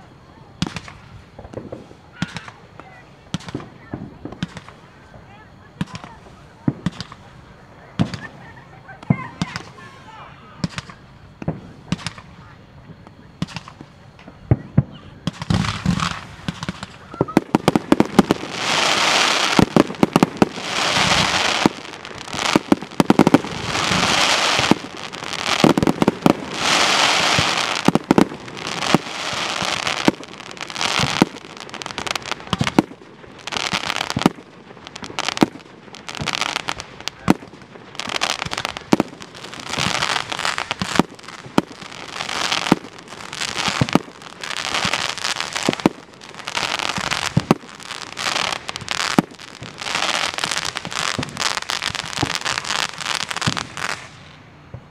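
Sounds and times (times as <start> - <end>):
fireworks hissing crackle: 0.0 - 54.9
fireworks bangs and pops: 0.6 - 10.0, 10.6 - 54.9.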